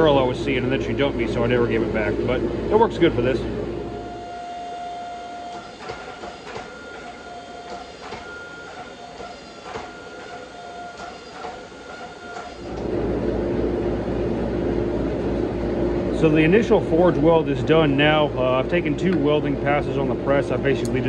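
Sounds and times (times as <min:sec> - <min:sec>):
gas forge whining: 0:00.0 - 0:21.0.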